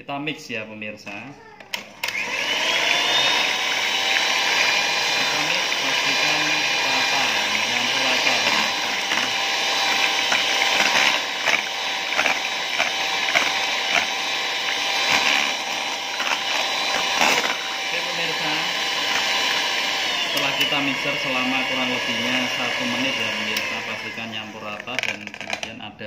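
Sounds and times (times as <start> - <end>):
mixer clicks: 1.6 - 25.8
electric hand mixer whining: 1.7 - 25.8.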